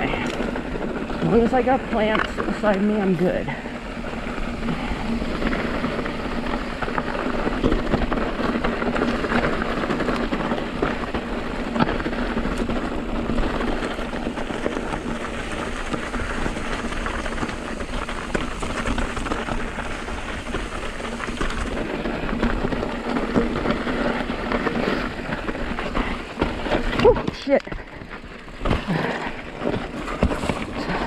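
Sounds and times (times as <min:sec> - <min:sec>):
bike knocking and clattering: 0:00.0 - 0:31.0
tyres crunching on gravel: 0:00.0 - 0:31.0.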